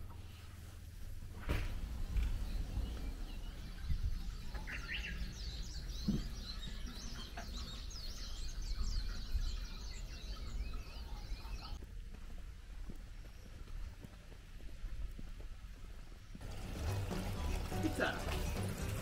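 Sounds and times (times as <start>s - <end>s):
birds chirping: 1.7s - 12.0s, 12.6s - 19.0s.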